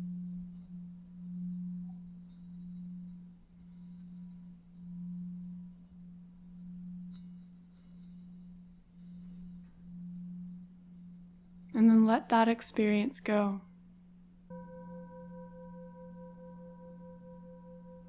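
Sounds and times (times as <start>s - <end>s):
low meditation drone: 0.0s - 12.5s, 13.6s - 18.0s.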